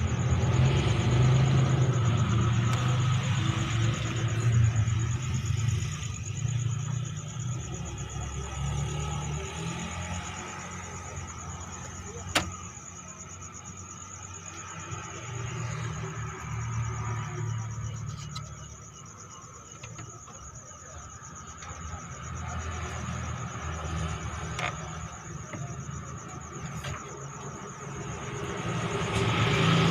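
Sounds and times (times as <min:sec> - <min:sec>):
high-pitched insect trill: 0:00.0 - 0:29.9
low engine-like rumble: 0:00.0 - 0:29.9.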